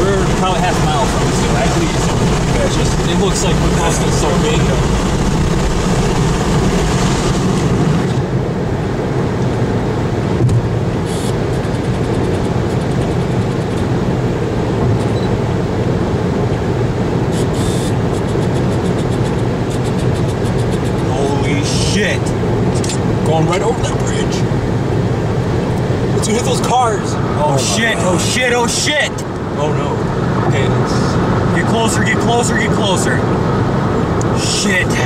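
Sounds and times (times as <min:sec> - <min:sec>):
road and engine noise in car: 0:00.0 - 0:35.0.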